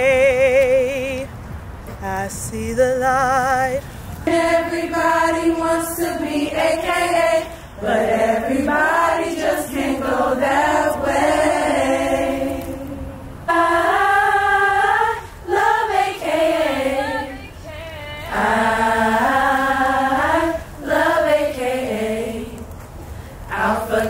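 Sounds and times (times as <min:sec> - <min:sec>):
women singing a cappella: 0:04.2 - 0:24.0.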